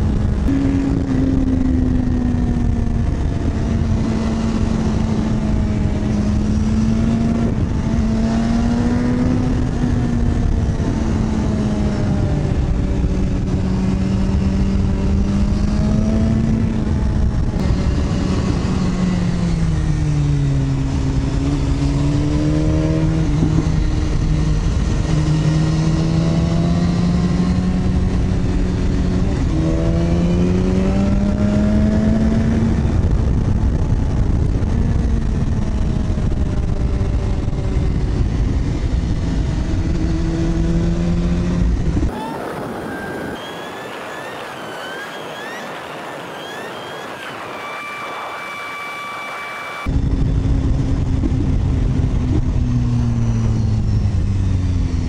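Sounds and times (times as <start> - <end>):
motorcycle engine running: 0.0 - 46.9, 49.2 - 55.0
wind rush over microphone: 0.0 - 55.0.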